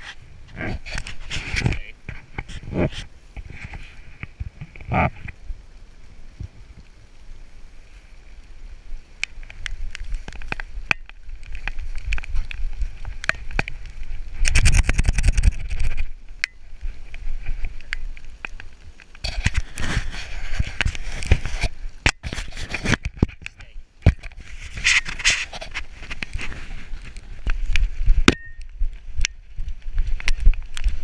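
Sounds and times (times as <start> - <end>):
rustling in dry leaves: 0.0 - 31.0.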